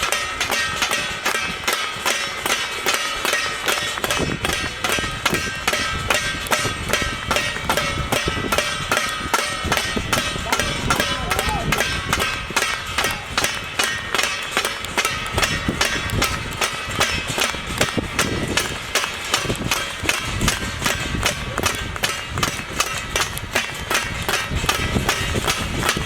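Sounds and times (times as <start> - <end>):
metal plates being beaten: 0.0 - 26.0.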